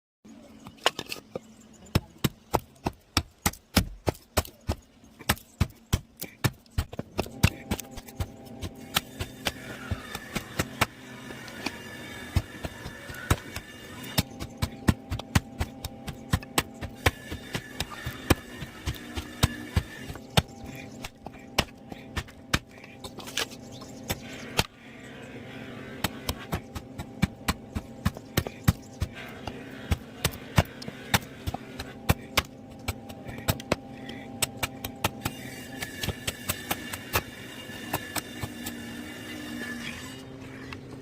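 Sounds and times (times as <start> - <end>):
steady hum: 0.3 - 41.0.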